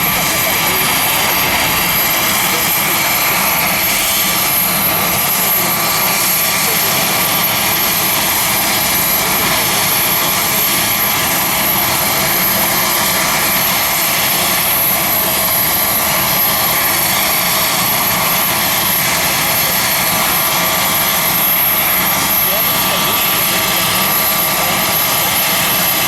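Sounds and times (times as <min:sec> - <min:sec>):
helicopter in flight: 0:00.0 - 0:26.0.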